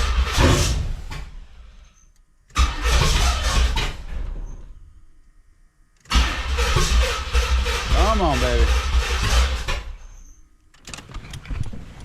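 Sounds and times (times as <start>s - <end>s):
car engine cranking and firing: 0.0s - 1.7s, 2.5s - 4.8s, 6.0s - 12.0s.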